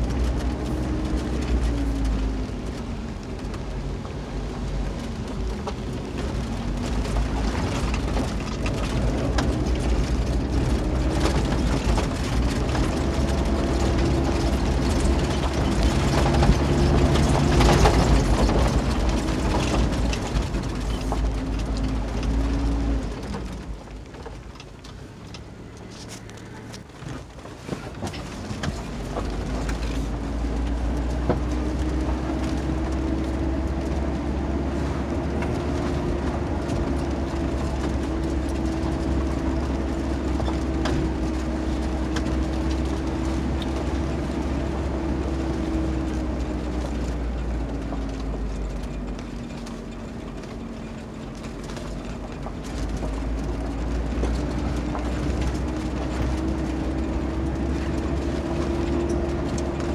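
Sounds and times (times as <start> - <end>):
car engine drone: 0.0 - 59.9.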